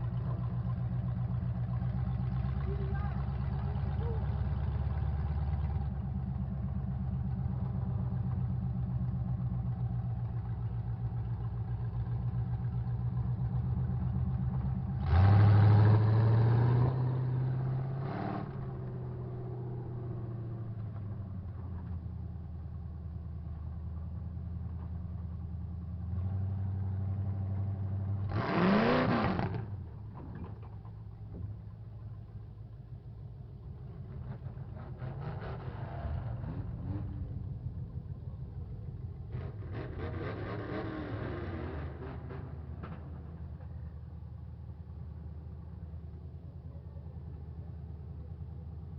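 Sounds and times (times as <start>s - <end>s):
truck engines running and revving: 0.0s - 48.9s.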